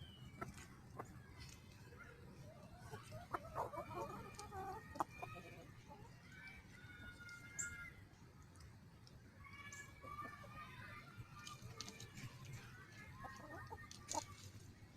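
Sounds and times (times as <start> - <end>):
chickens clucking: 0.0 - 7.6, 9.5 - 14.7.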